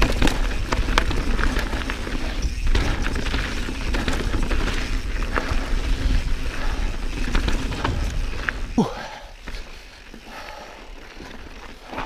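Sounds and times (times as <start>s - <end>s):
mountain bike rattling over rocks: 0.0s - 12.0s.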